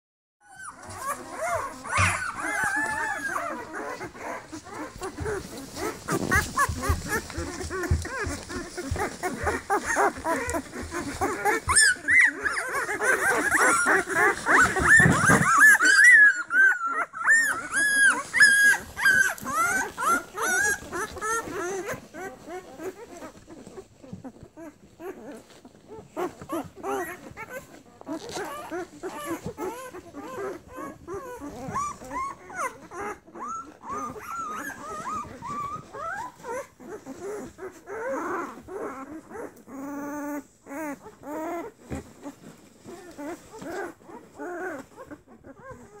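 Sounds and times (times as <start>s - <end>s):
puppies whimpering and squeaking: 0.4s - 46.0s.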